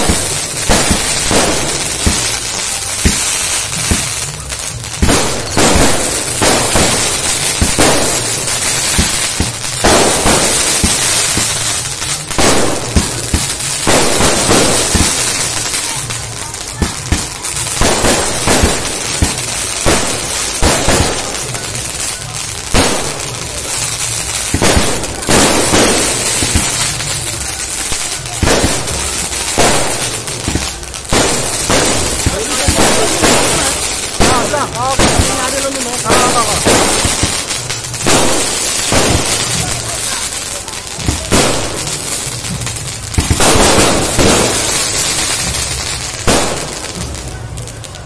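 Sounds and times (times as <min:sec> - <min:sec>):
firework hissing crackle: 0:00.0 - 0:48.0
firework pops and bangs: 0:00.0 - 0:48.0.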